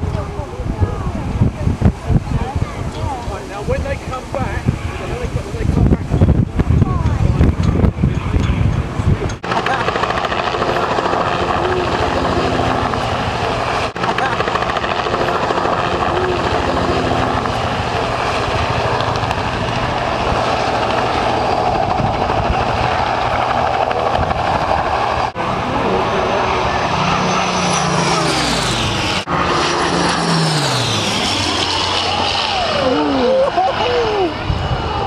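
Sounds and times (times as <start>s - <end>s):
helicopter engine and rotor: 2.0s - 35.0s.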